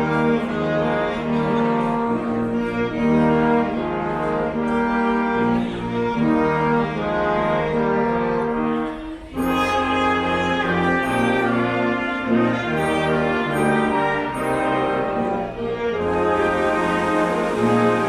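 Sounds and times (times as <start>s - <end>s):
wind band playing chords: 0.0s - 18.0s.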